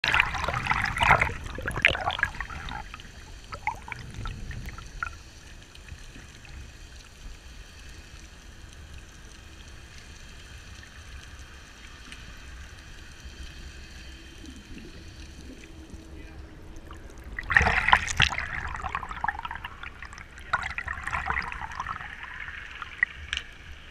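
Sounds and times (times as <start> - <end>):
muffled underwater rumble: 0.0 - 23.9
water bubbling and crackling: 0.0 - 23.9.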